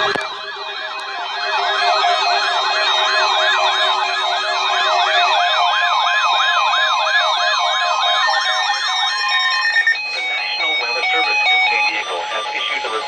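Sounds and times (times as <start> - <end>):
warbling electronic alert siren: 0.0 - 13.0.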